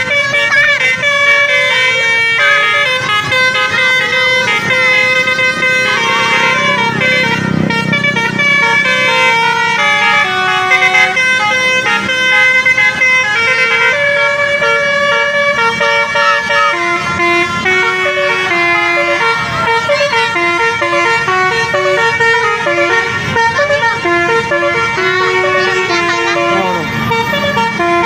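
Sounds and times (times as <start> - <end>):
multi-tone air horn playing a tune: 0.0 - 28.0.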